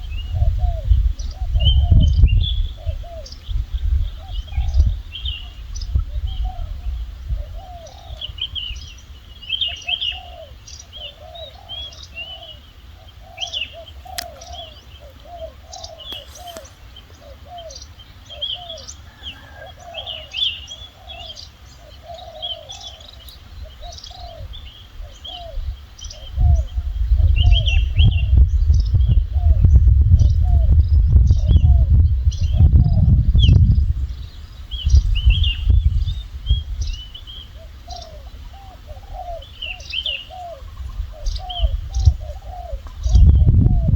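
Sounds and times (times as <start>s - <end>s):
high chirps of small birds: 0.0s - 43.9s
short low bird calls: 0.0s - 43.9s.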